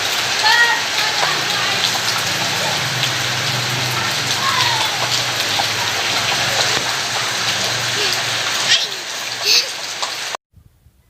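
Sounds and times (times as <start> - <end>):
rain pouring: 0.0 - 10.4.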